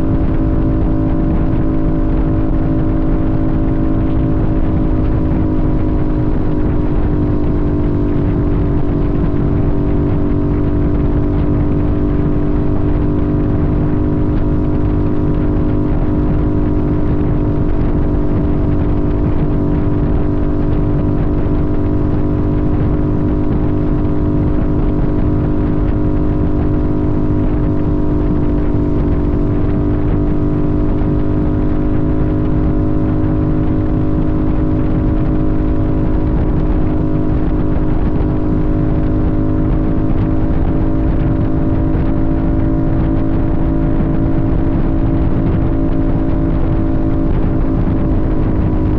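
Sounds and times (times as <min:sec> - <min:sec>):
motorcycle engine cruising: 0:00.0 - 0:48.9
wind and road noise: 0:00.0 - 0:48.9.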